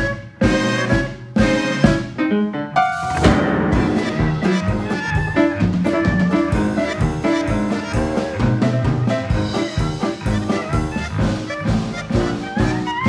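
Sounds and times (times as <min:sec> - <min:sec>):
swing jazz with brass and drums: 0:00.0 - 0:13.0.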